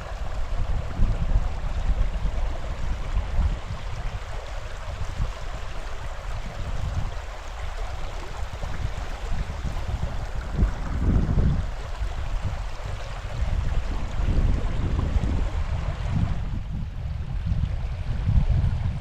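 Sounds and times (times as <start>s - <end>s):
stream water rushing: 0.0s - 19.0s
wind on microphone: 0.0s - 19.0s.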